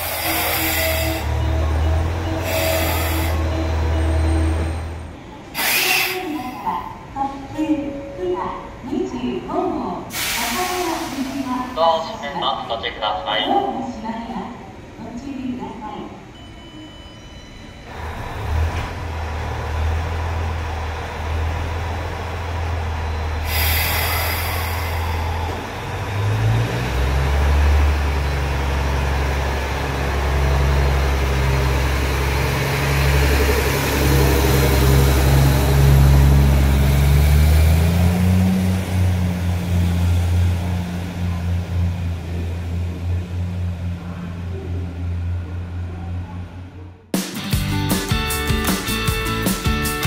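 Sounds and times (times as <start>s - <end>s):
railcar diesel engine drone: 0.0s - 50.0s.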